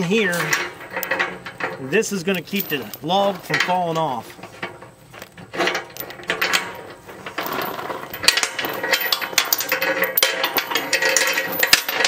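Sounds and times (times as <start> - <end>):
steel chain rattling and clinking: 0.0 - 12.0.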